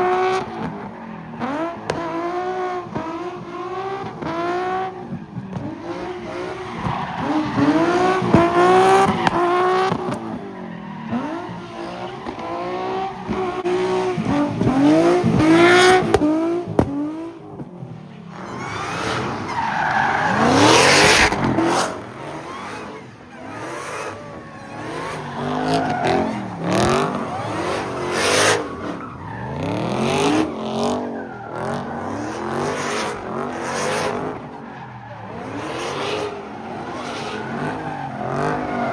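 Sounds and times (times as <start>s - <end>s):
car engines revving: 0.0s - 38.9s
tyres skidding and squealing: 0.0s - 38.9s.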